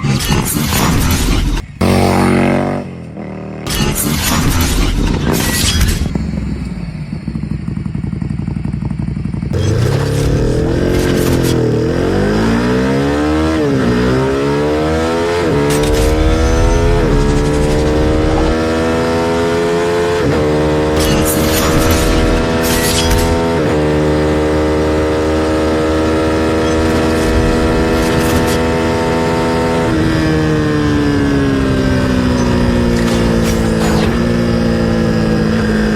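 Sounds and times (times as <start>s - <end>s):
motorcycle engine accelerating: 0.7s - 35.9s.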